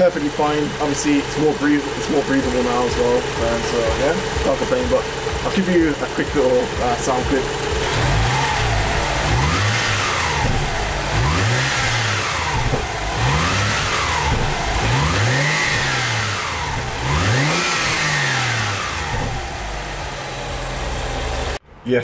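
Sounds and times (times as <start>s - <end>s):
car engine idling: 0.0s - 21.6s
car engine revving: 0.0s - 21.6s.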